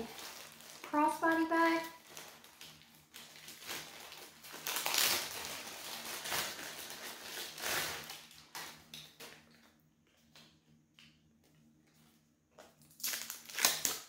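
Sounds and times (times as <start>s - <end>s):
packaging crinkling and rustling: 0.0s - 10.6s, 12.6s - 14.0s.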